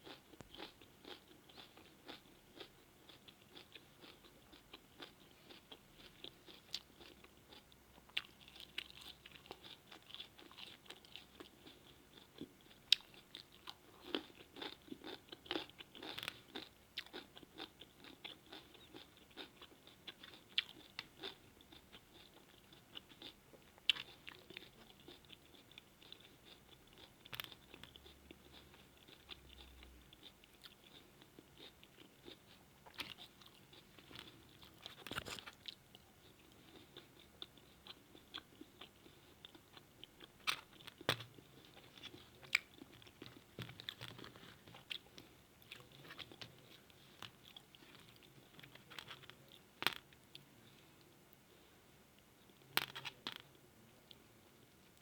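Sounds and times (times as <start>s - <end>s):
person chewing: 0.0s - 50.0s.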